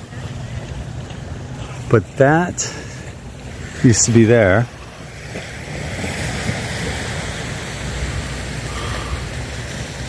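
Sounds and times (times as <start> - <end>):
surf rushing: 0.0 - 10.0
wind buffeting microphone: 0.0 - 10.0.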